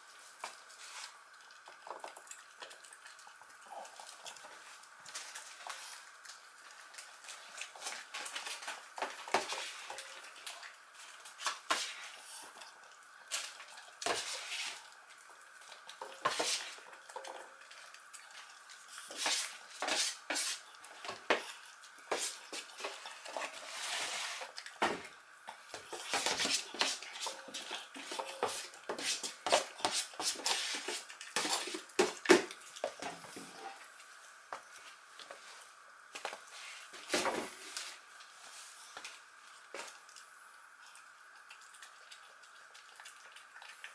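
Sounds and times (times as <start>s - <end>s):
dog eating from bowl: 0.4s - 20.0s, 20.6s - 33.9s, 39.0s - 43.9s.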